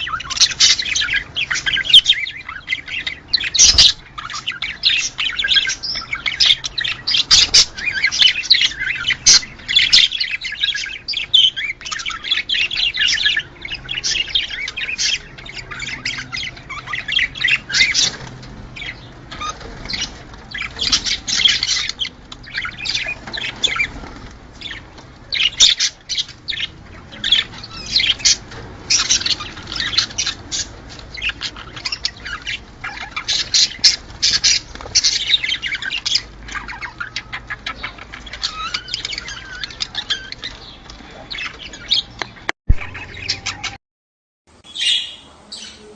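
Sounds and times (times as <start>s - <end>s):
budgerigars chattering: 0.0s - 43.8s, 44.6s - 45.9s.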